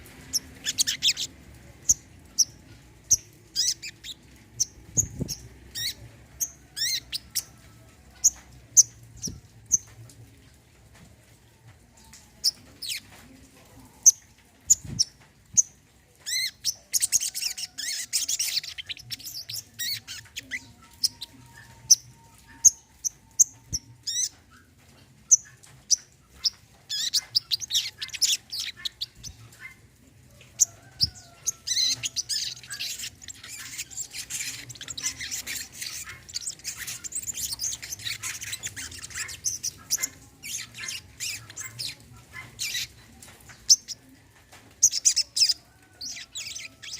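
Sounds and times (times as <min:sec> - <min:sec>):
sunbird chirping and twittering: 0:00.1 - 0:09.9, 0:13.9 - 0:44.1, 0:44.8 - 0:46.9.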